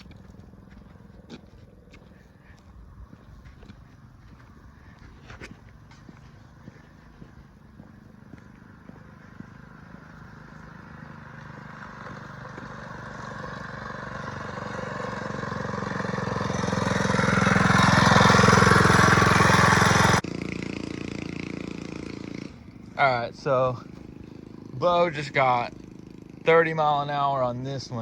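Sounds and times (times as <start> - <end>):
mini bike engine at full throttle: 0.0 - 28.0.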